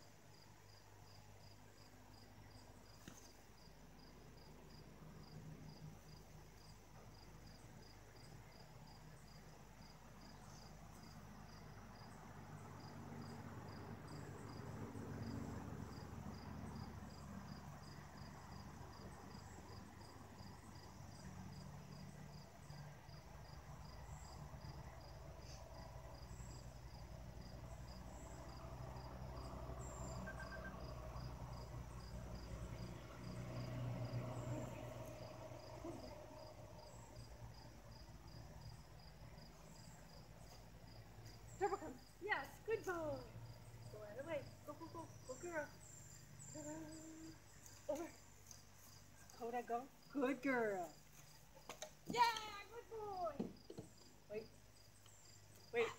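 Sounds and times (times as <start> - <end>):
cricket chirping: 0.0 - 55.9.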